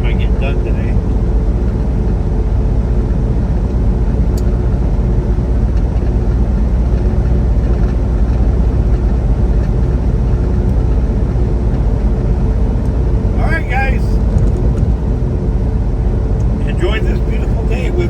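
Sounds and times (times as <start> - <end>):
truck engine and road noise drone: 0.0 - 18.0.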